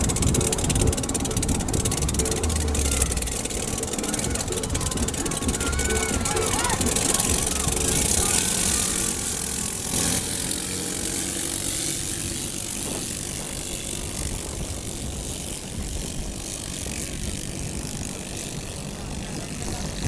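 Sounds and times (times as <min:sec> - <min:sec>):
boat engines droning: 0:00.0 - 0:20.0.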